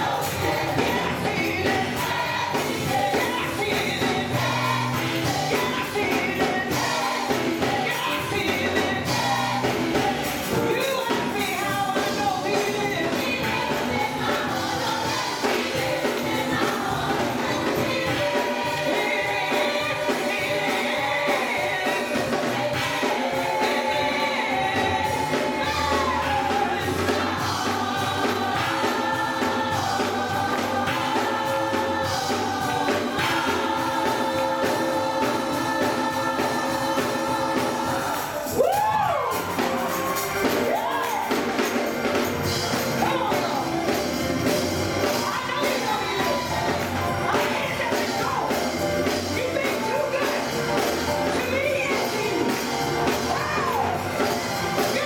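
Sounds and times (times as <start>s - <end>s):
gospel choir singing: 0.0s - 55.0s.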